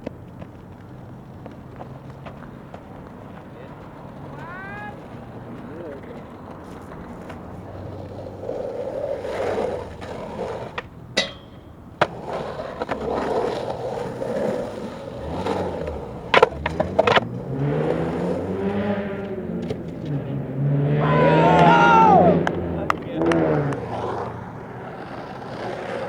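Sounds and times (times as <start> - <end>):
skateboard clacking on ground: 0.0 - 18.4, 19.2 - 20.1, 21.5 - 26.0
skateboard wheels rolling on concrete: 0.0 - 26.0.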